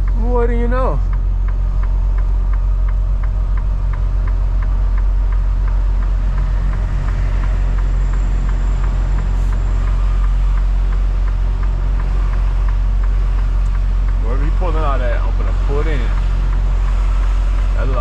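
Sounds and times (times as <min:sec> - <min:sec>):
steady ticking: 0:00.0 - 0:18.0
truck diesel engine rumbling: 0:00.0 - 0:18.0.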